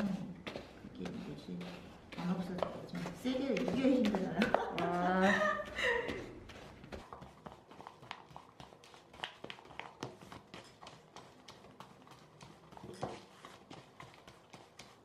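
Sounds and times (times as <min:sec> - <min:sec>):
hands mixing granules in plastic tub: 0:00.0 - 0:15.0.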